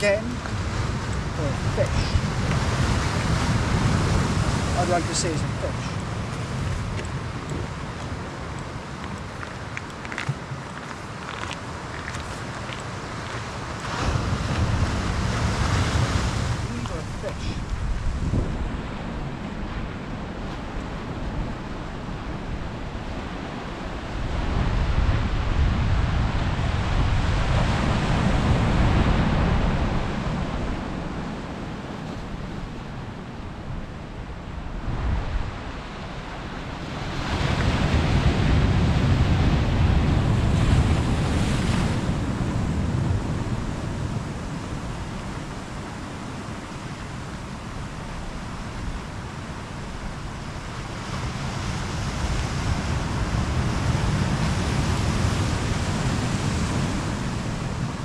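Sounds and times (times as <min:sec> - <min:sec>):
waves breaking on rocky shore: 0:00.0 - 0:58.0
wind rumbling on microphone: 0:00.0 - 0:58.0.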